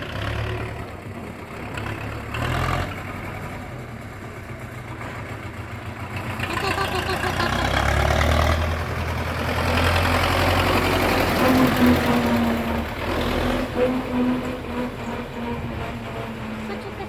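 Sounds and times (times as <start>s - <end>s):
diesel tractor engine rumbling: 0.0s - 17.0s.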